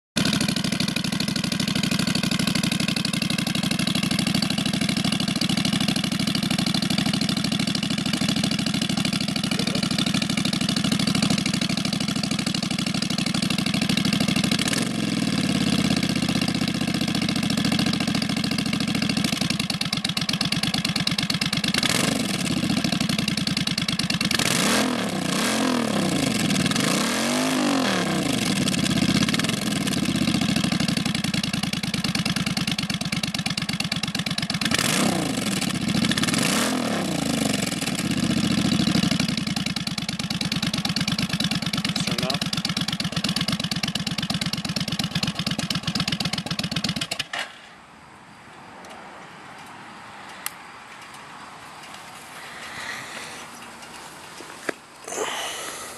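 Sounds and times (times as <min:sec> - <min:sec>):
motorcycle engine idling: 0:00.2 - 0:25.3, 0:25.9 - 0:47.3, 0:50.9 - 0:55.9
motorcycle engine revving: 0:00.2 - 0:47.3, 0:51.0 - 0:55.9.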